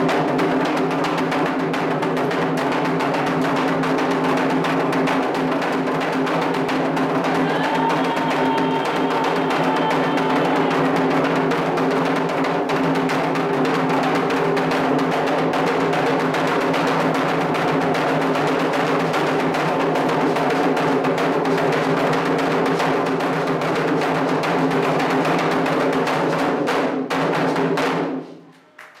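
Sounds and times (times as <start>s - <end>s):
hand drums playing rhythm: 0.0s - 28.2s.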